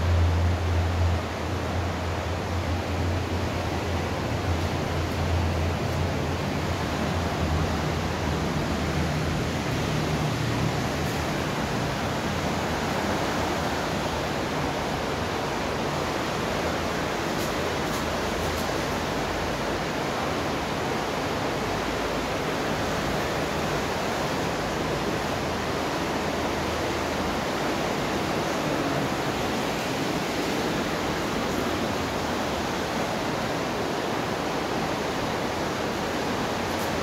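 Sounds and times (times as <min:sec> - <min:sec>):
water rushing in culvert: 0:00.0 - 0:37.0.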